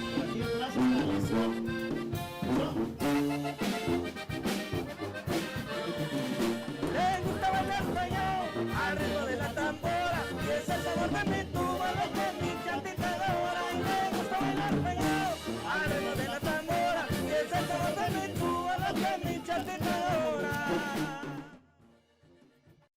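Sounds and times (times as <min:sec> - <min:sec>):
band playing upbeat brass tune: 0:00.0 - 0:21.6.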